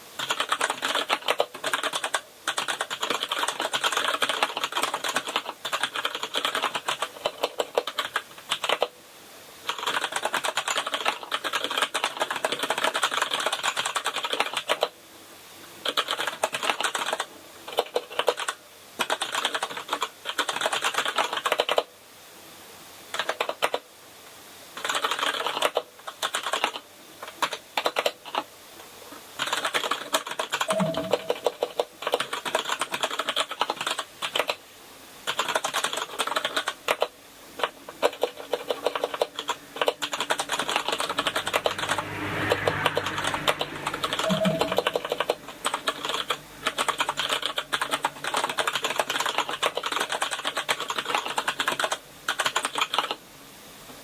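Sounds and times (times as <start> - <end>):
fast typing on keyboard: 0.2 - 9.0, 9.6 - 15.0, 15.8 - 21.9, 23.1 - 23.8, 24.8 - 28.5, 29.1 - 34.6, 35.2 - 42.0, 42.9 - 53.2.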